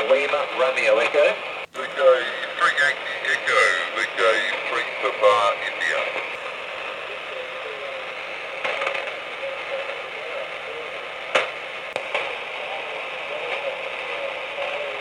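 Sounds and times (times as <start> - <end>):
radio band noise hiss: 0.0 - 15.0
radio static crashes: 0.0 - 15.0.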